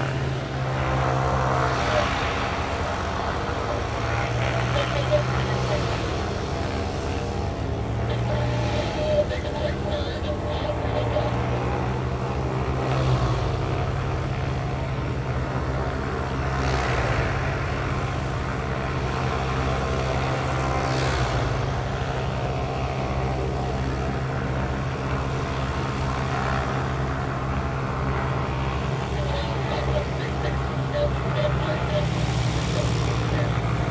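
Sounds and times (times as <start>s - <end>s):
airliner engines droning: 0.0s - 33.9s.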